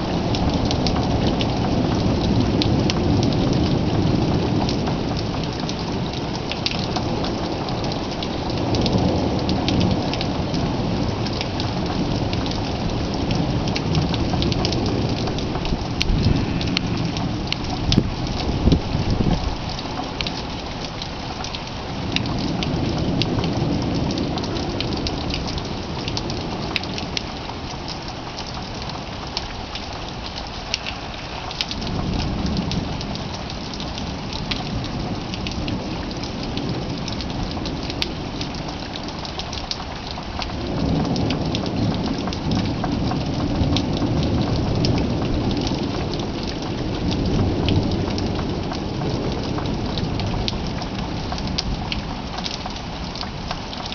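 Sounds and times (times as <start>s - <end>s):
low rolls of thunder: 0.0s - 20.4s, 22.0s - 27.3s, 31.7s - 39.3s, 40.5s - 52.4s
steady rain: 0.0s - 53.9s.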